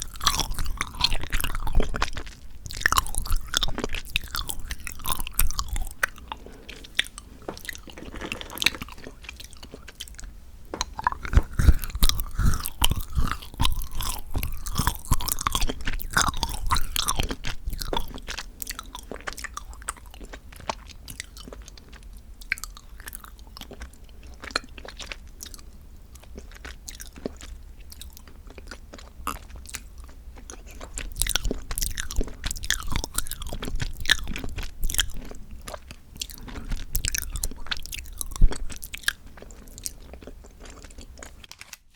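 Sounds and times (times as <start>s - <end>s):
chewing crunchy chocolate: 0.0s - 41.9s.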